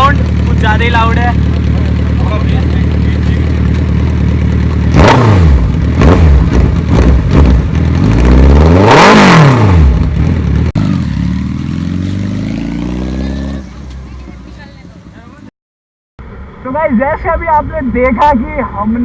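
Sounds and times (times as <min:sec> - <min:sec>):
motorcycle engine revving and idling: 0:00.0 - 0:15.5.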